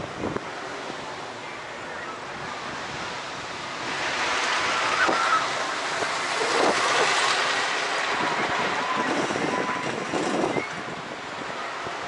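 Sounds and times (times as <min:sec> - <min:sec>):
wind rushing: 0:02.3 - 0:12.0.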